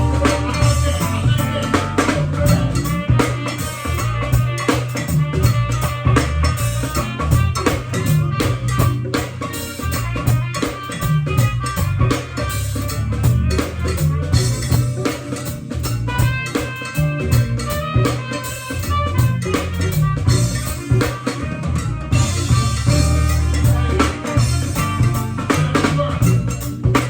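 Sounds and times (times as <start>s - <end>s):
bass: 0.0s - 27.0s
drum kit beat: 0.0s - 27.0s
guitar: 0.0s - 27.0s.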